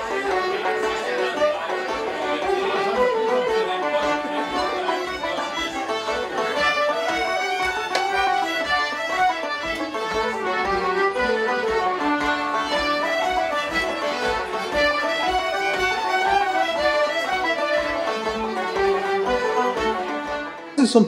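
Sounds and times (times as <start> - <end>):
fiddles and banjo playing a lively tune: 0.0 - 21.0.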